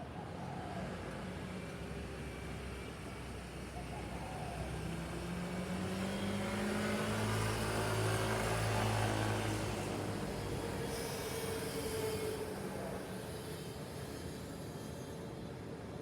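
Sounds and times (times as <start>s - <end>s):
city street ambience: 0.0s - 16.0s.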